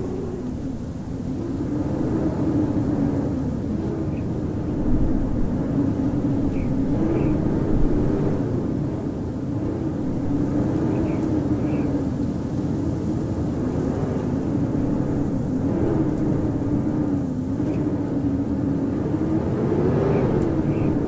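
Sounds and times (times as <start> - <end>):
howling blizzard wind: 0.0 - 21.0.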